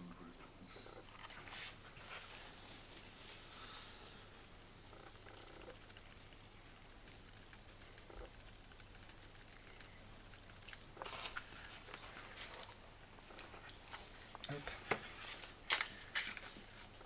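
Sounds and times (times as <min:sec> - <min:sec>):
fibres pattering through sieve: 0:01.1 - 0:17.0.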